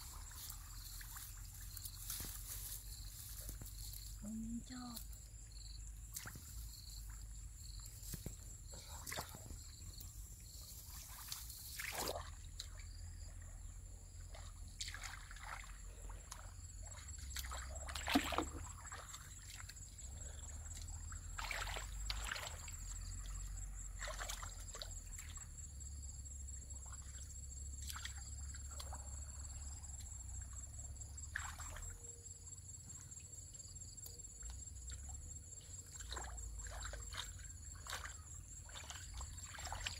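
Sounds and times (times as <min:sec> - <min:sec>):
water sloshing and splashing: 0:00.0 - 0:04.2, 0:06.0 - 0:25.6, 0:26.7 - 0:29.6, 0:31.1 - 0:32.0, 0:34.7 - 0:39.9.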